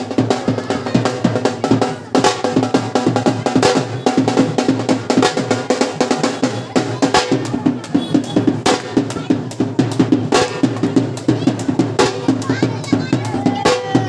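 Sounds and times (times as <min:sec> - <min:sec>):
fast dense drumming: 0:00.0 - 0:14.0.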